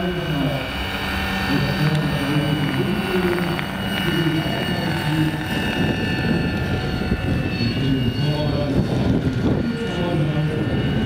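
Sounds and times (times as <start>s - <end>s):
helicopter rotor whoosh: 0.0s - 11.0s
high motor whine: 0.0s - 11.0s.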